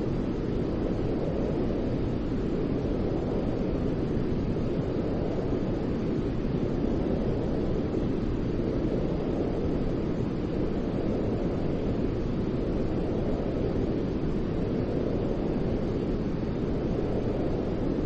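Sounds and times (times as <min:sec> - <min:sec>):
deep white noise: 0:00.0 - 0:18.0.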